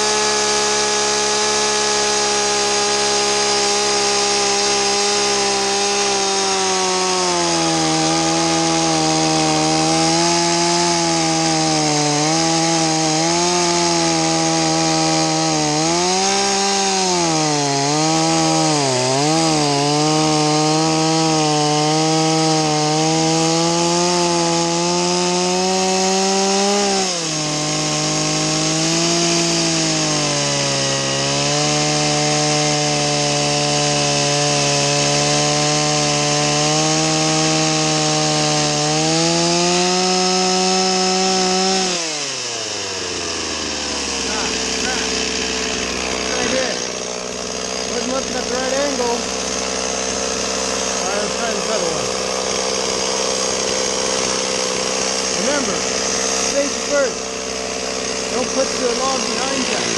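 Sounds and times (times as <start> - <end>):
chainsaw cutting into log: 0.0 - 59.9.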